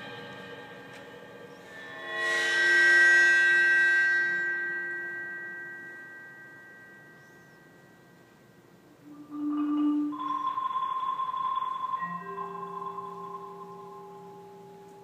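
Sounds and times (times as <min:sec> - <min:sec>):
high metallic ringing tones: 0:01.5 - 0:15.0.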